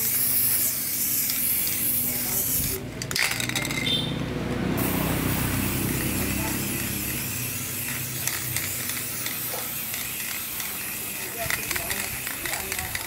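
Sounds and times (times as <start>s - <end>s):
spray paint can hissing: 0.0s - 13.0s.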